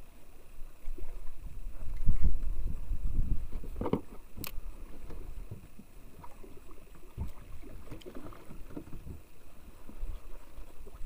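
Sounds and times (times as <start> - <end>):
wind rumble on microphone: 0.0 - 11.0
waves lapping against wooden hull: 0.8 - 11.0.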